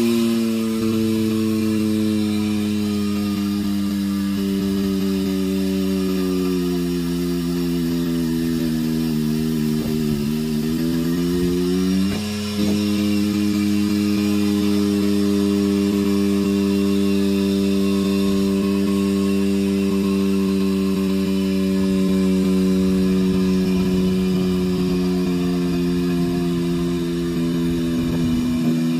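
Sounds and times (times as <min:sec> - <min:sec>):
tire changer motor humming: 0:00.0 - 0:28.9.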